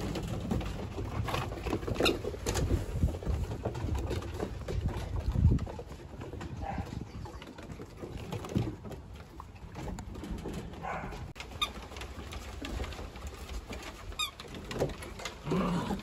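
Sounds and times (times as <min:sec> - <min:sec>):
paws pattering on wooden boards: 0:00.0 - 0:16.0.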